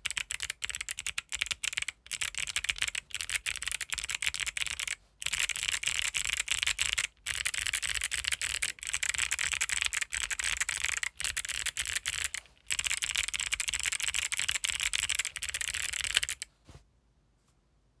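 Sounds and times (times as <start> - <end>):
mechanical keyboard typing: 0.0 - 16.5.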